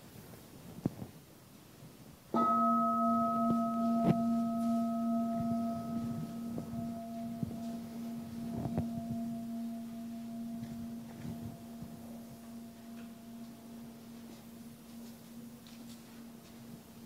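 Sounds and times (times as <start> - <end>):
bell ringing: 2.4 - 17.0
people knocking and shuffling: 3.0 - 17.0.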